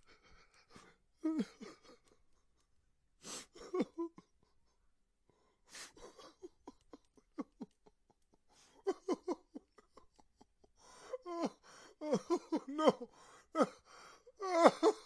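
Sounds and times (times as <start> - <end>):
man crying with gasps and sobs: 0.0 - 2.4, 3.2 - 15.0.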